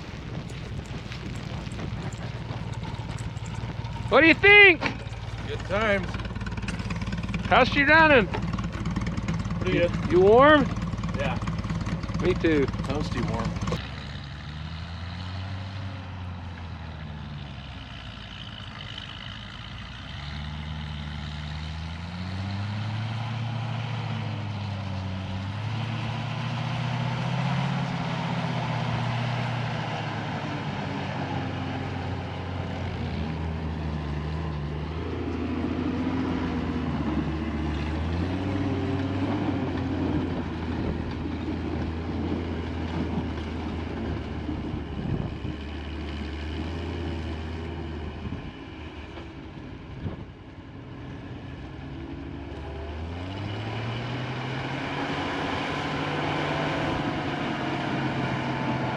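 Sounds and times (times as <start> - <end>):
snow vehicle engine running: 0.0 - 58.9.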